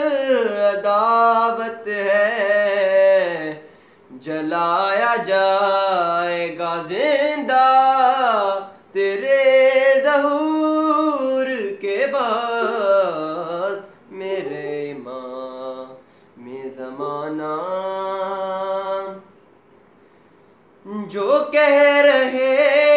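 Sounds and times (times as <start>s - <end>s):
man singing unaccompanied: 0.0s - 19.4s, 20.8s - 22.9s.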